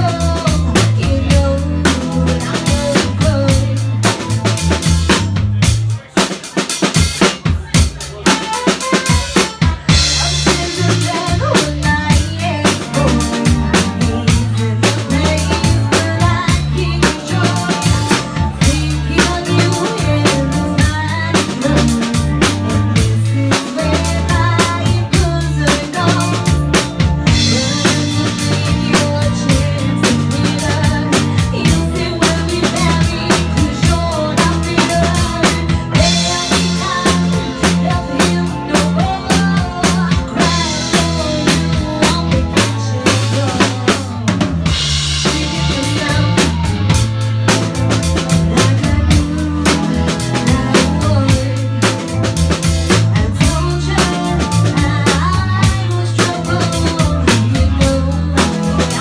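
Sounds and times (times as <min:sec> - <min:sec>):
drum kit beat: 0:00.0 - 0:59.0
live band playing: 0:00.0 - 0:59.0.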